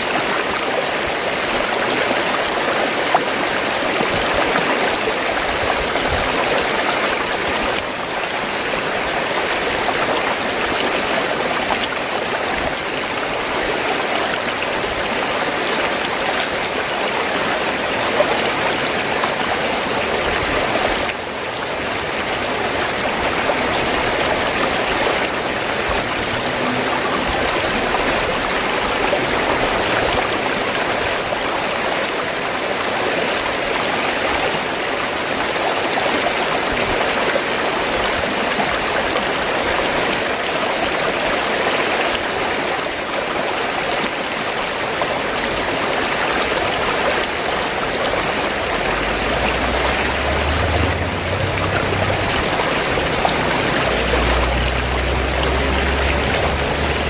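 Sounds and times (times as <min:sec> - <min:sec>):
stream water gurgling and rushing: 0:00.0 - 0:57.0.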